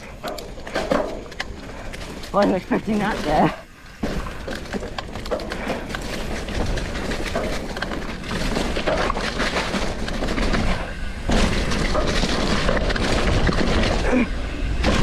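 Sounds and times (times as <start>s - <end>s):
bike tyres rattling and crunching: 0.0s - 15.0s.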